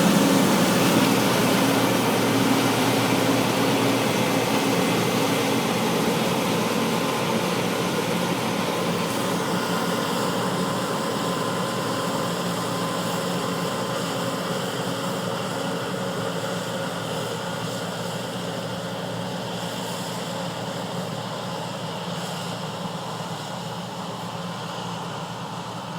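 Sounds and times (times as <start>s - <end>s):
combine harvester engine drone: 0.0s - 25.9s.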